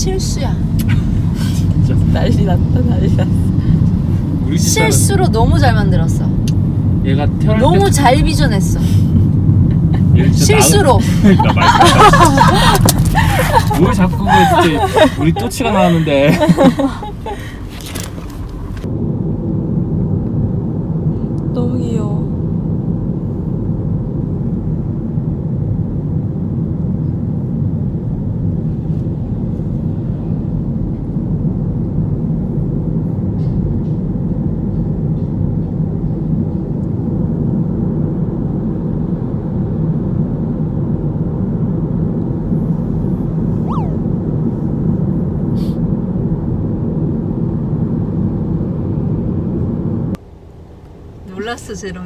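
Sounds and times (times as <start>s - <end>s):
rushing air in moving car: 0.0s - 52.0s.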